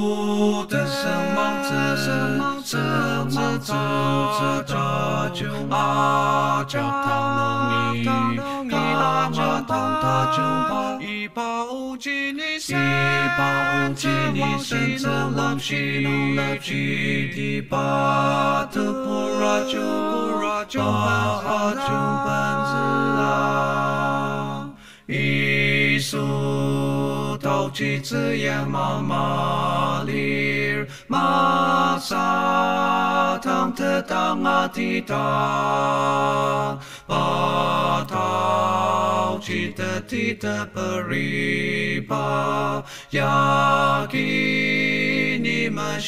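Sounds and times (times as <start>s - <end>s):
a cappella hymn singing in harmony: 0.0s - 46.0s.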